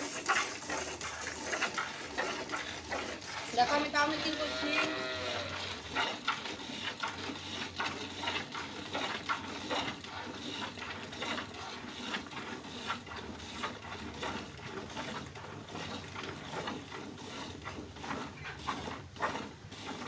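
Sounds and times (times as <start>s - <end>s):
milk squirting into plastic bucket: 0.0s - 20.0s.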